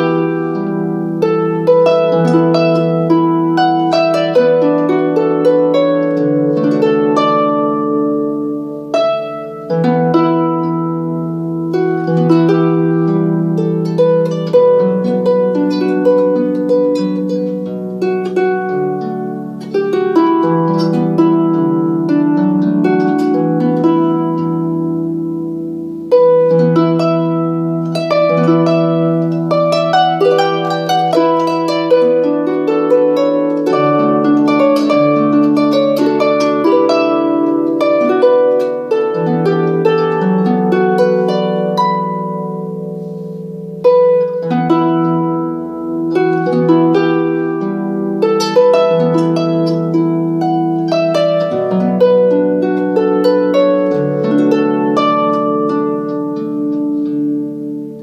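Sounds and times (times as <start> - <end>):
solo harp plucked: 0.0 - 58.0.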